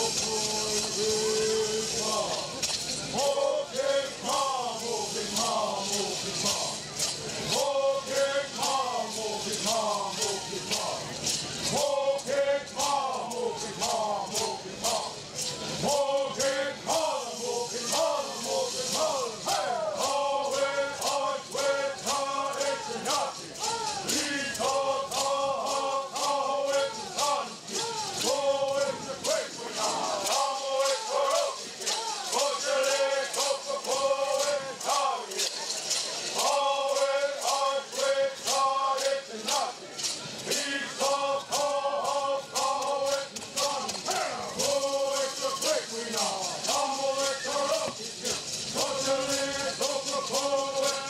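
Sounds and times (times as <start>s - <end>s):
gourd rattles shaking: 0.0s - 51.0s
men singing in unison: 0.0s - 51.0s.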